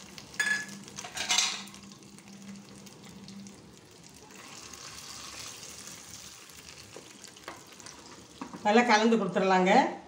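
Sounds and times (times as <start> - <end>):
faint oil sizzle: 0.0 - 9.1.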